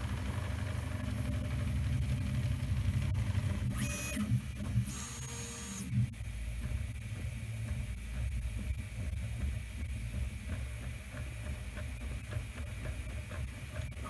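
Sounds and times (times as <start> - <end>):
high-pitched print head whine: 0.0 - 14.0
printer motors and fans humming: 0.0 - 14.0.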